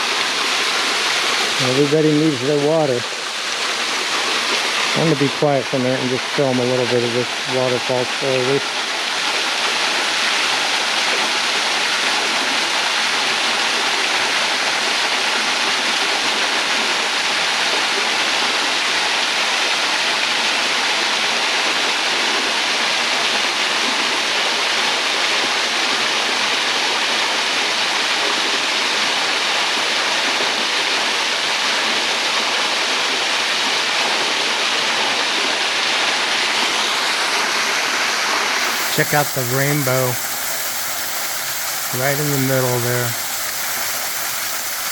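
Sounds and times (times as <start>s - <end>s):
waterfall splashing over rocks: 0.0s - 44.9s.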